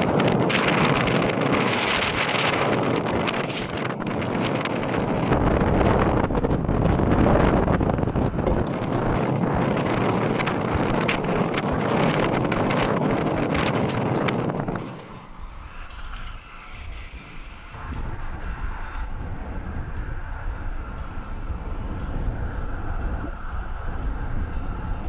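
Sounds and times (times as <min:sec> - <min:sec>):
tyre and road noise: 0:00.0 - 0:25.0
wind buffeting microphone: 0:00.0 - 0:25.0.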